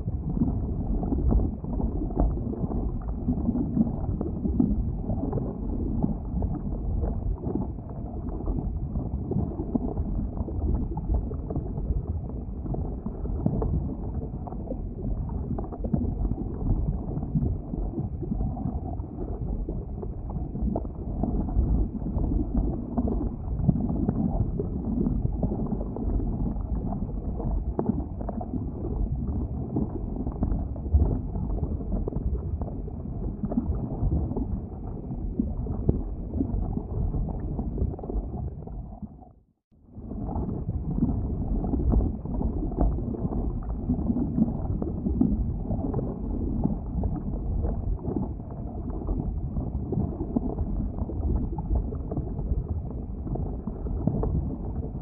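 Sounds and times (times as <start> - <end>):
boiling lava rumbling: 0.0 - 55.0.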